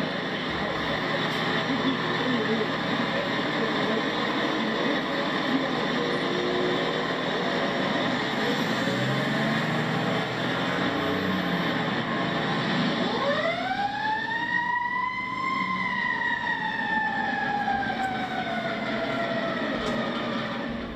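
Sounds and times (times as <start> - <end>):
fire engine siren: 0.0 - 20.9
truck engine rumble: 0.0 - 20.9.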